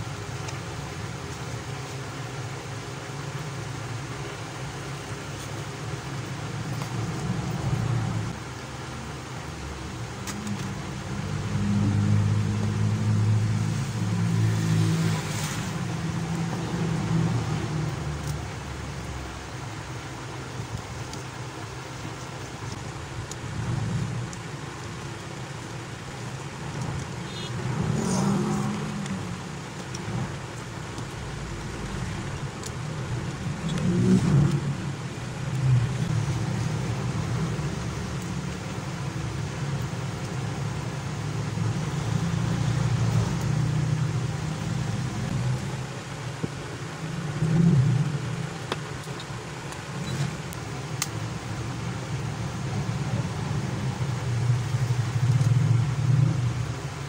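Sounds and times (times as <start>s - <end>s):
low engine rumble: 0.0s - 57.0s
low motor hum: 0.0s - 57.0s.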